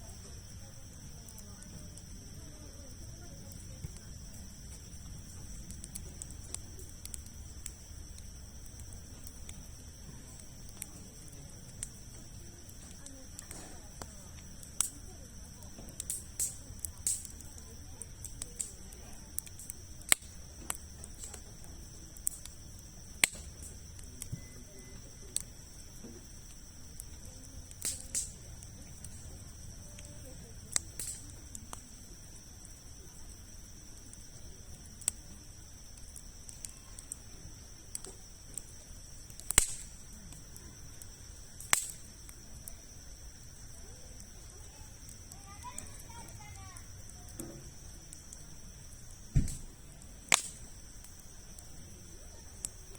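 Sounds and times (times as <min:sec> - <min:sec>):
burning logs popping: 0:00.0 - 0:52.9
campfire crackling: 0:00.0 - 0:52.9
faint steady high tone: 0:00.0 - 0:52.9
insect trill: 0:00.0 - 0:52.9.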